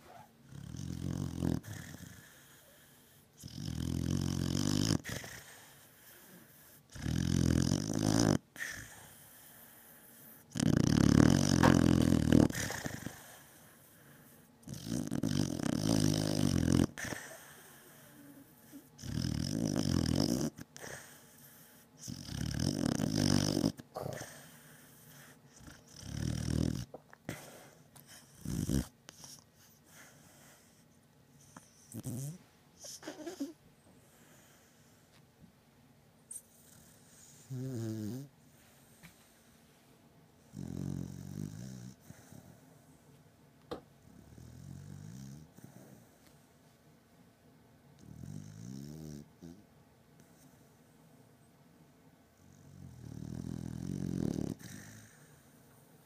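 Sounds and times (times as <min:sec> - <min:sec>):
dog snoring: 0:00.0 - 0:35.2, 0:36.3 - 0:39.3, 0:40.4 - 0:42.6, 0:44.0 - 0:46.2, 0:48.0 - 0:50.8, 0:52.4 - 0:55.8.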